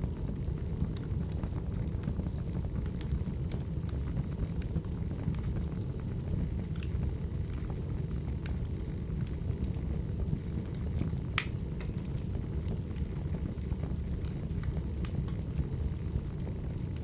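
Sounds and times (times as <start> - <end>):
fire low rumble: 0.0 - 17.0
wood fire crackling: 0.0 - 17.0.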